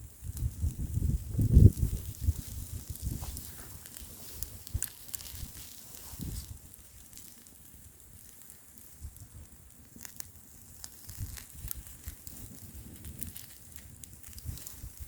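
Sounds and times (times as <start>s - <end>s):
low wind rumble: 0.0s - 6.9s, 8.9s - 15.0s
campfire crackling: 0.0s - 15.0s.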